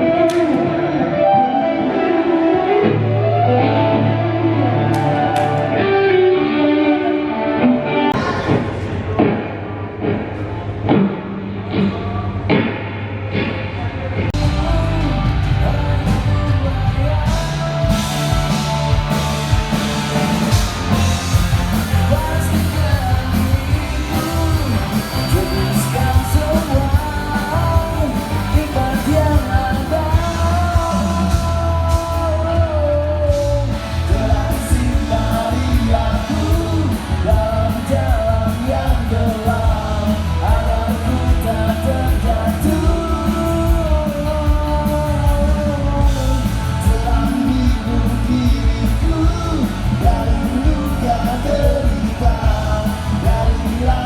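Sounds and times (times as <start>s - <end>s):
lead vocalist singing: 0.0s - 8.6s, 14.4s - 54.0s
live rock band playing: 0.0s - 13.5s, 14.4s - 54.0s.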